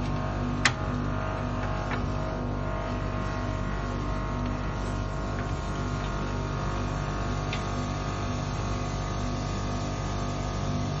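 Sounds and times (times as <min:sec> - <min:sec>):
drain-cleaning machine humming: 0:00.0 - 0:11.0.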